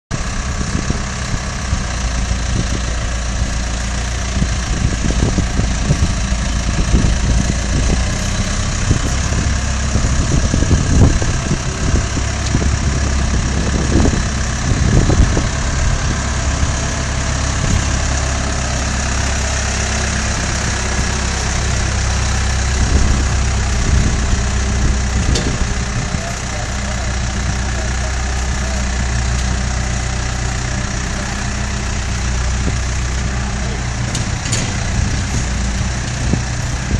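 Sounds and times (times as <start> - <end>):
diesel engine running: 0.1 - 36.9.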